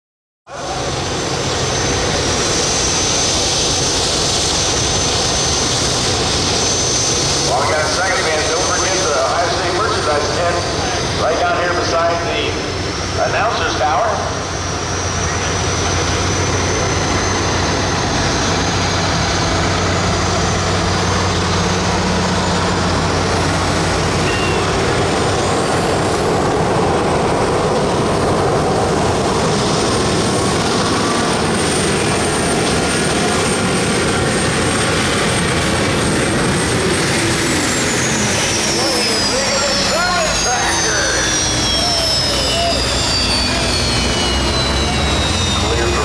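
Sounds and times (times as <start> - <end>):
high whine: 0.5 - 46.0
tractor engine roaring: 0.5 - 46.0.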